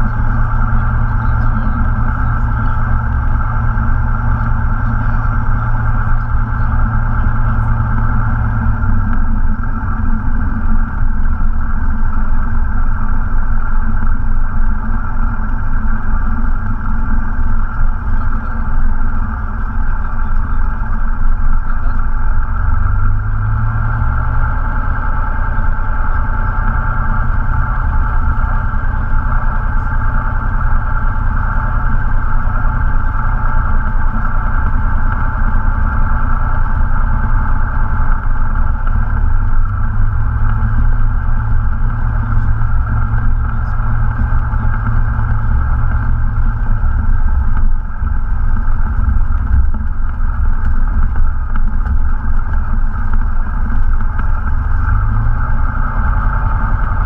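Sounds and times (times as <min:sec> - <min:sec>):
propeller plane engine taxiing: 0:00.0 - 0:57.0.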